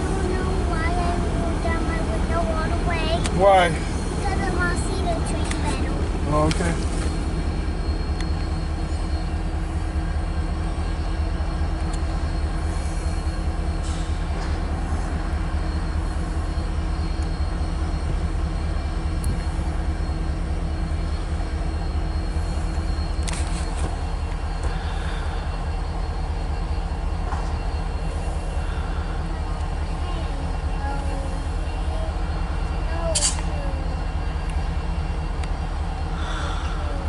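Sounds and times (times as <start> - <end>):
diesel engine rumble: 0.0 - 37.0.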